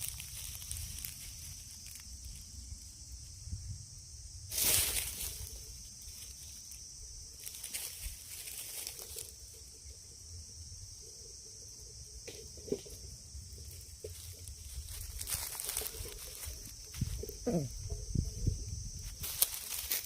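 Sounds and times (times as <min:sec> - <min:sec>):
steady high-pitched hiss: 0:00.0 - 0:20.0.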